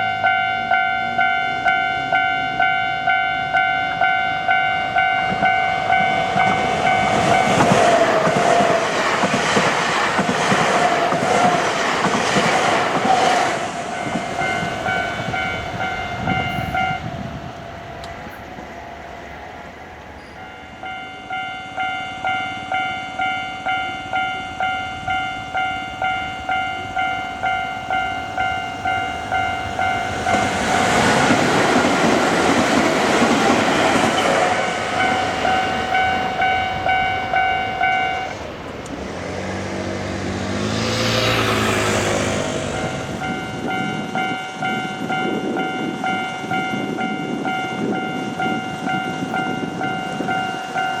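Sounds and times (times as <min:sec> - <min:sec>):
level crossing warning bell: 0:00.0 - 0:09.6, 0:13.8 - 0:51.0
train wheels on rails: 0:00.0 - 0:51.0.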